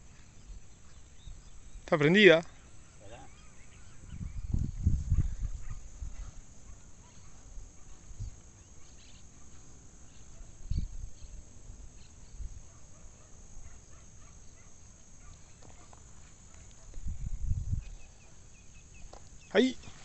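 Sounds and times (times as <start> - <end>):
rural outdoor ambience: 0.0 - 20.0.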